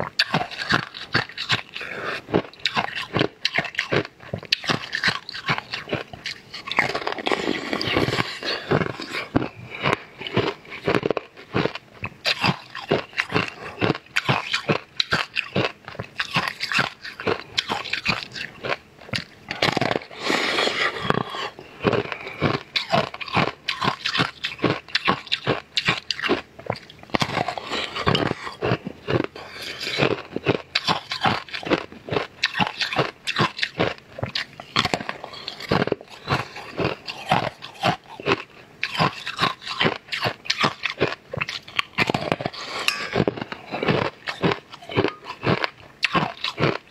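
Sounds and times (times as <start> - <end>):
crunching and chewing ice: 0.0 - 46.9.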